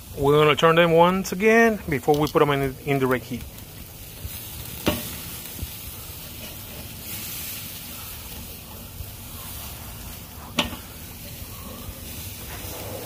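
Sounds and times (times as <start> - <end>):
steaks sizzling on a grill: 0.0 - 13.0.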